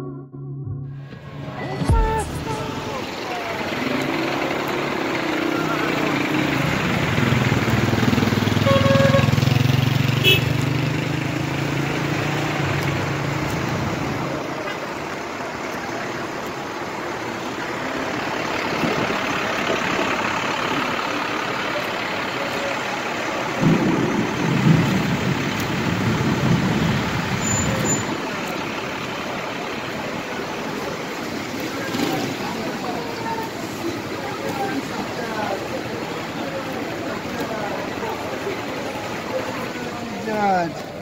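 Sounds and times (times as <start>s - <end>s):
low engine rumble: 1.0s - 10.4s, 11.2s - 41.0s
vehicles creeping on wet ground: 1.1s - 41.0s.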